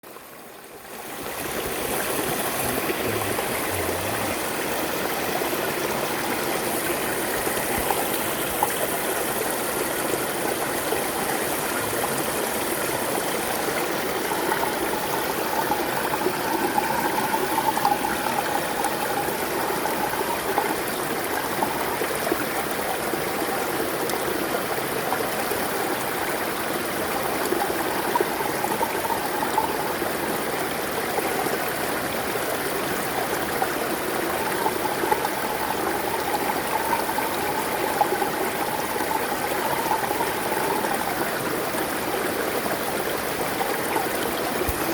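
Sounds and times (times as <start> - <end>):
stream burbling over stones: 0.0 - 44.9.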